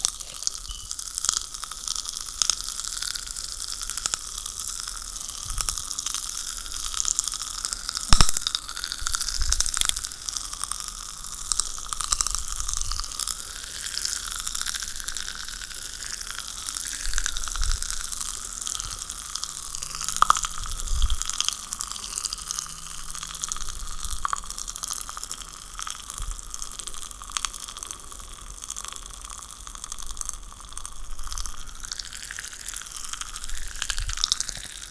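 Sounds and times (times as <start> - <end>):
popping candy crackling and fizzing: 0.0 - 34.9.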